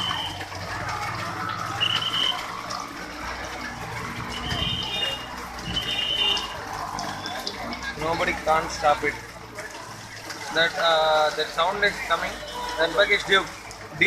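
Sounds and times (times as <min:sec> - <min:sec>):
floodwater rushing: 0:00.0 - 0:14.0
rain: 0:00.0 - 0:14.0.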